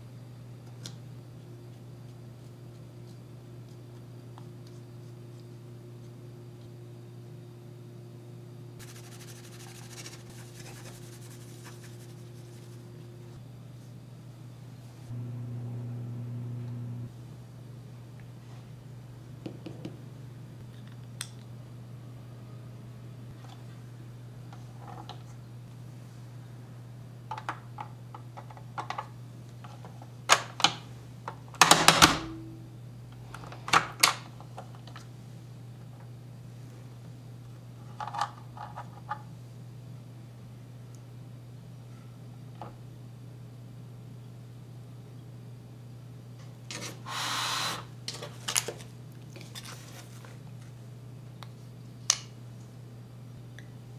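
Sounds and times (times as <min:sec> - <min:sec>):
refrigerator humming: 0:00.0 - 0:53.9.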